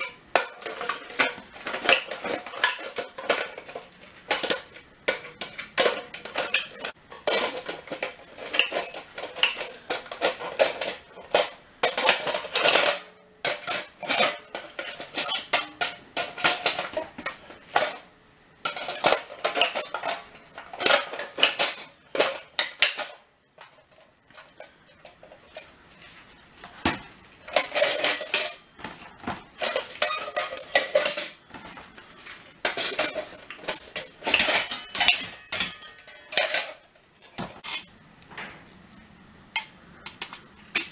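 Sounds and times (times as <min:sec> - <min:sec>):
cut metal crinkling and clinking: 0:00.0 - 0:38.6.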